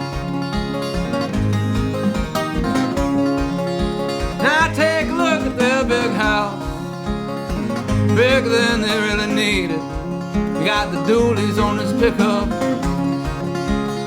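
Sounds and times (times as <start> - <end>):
country song with plucked strings: 0.0 - 14.0
sliding lead melody: 0.0 - 14.0.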